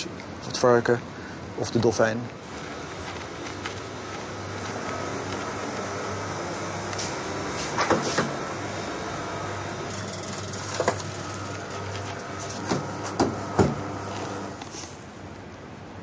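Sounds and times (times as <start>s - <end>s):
lab equipment hum: 0.0s - 15.4s.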